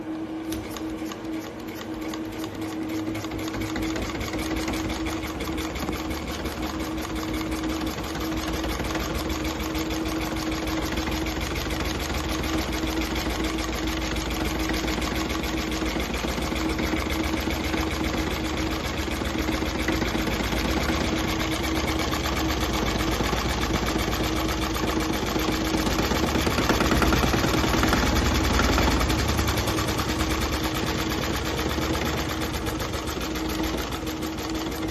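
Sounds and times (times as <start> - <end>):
model diesel engine running: 2.2 - 34.9.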